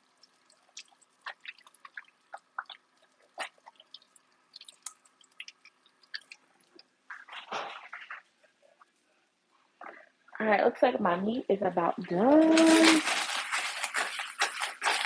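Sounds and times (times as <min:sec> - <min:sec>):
meat frying and crackling: 0:00.0 - 0:09.0, 0:12.0 - 0:15.0.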